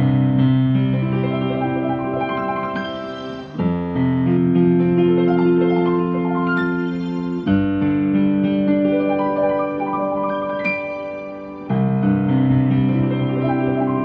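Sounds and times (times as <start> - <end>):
piano playing arpeggios: 0.0 - 14.0.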